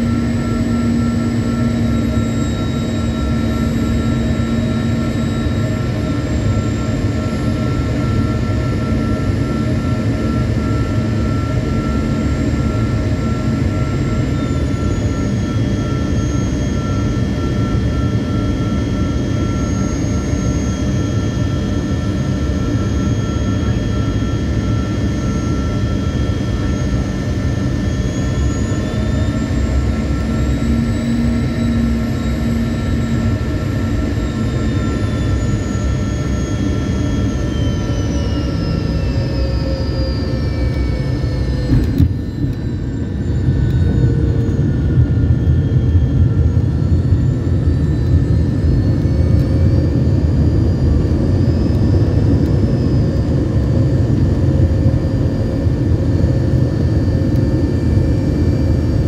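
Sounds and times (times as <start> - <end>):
jet engine whine in cabin: 0.0 - 59.0.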